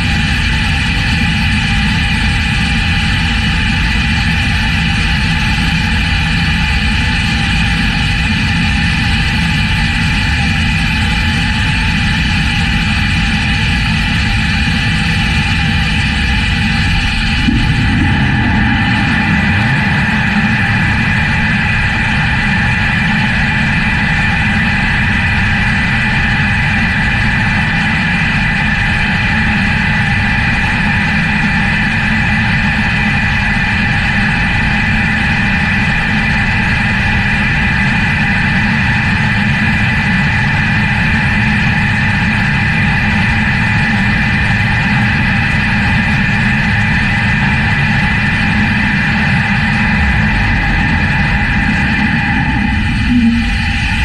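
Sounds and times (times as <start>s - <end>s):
jet engines rumbling: 0.0s - 40.6s, 42.5s - 54.0s
high engine whine: 0.0s - 54.0s.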